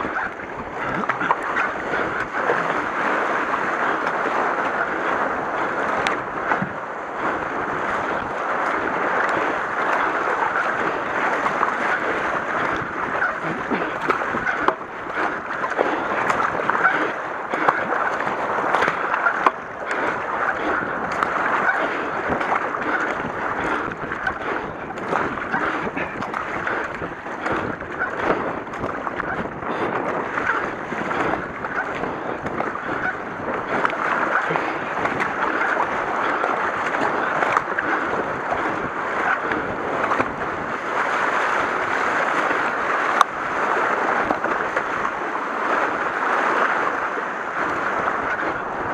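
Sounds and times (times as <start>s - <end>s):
kayak paddle splashing: 0.0s - 48.9s
river water rushing: 0.0s - 48.9s.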